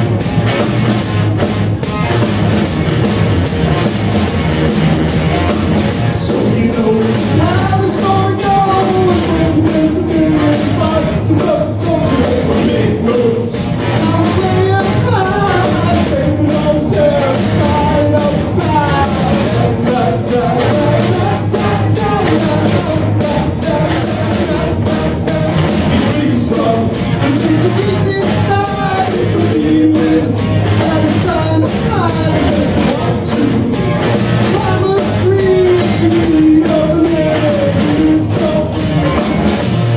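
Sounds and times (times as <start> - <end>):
drum kit: 0.0 - 39.9
electric bass: 0.0 - 39.9
electric guitar: 0.0 - 39.9.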